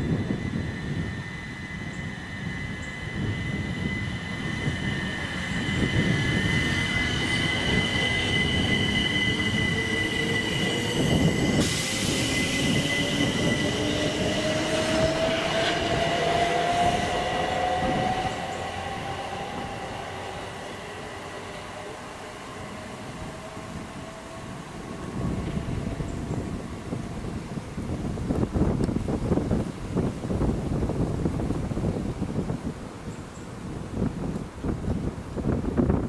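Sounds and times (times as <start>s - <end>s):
low motor whine rising in pitch: 0.0s - 28.9s
train high-pitched whine: 0.0s - 32.6s.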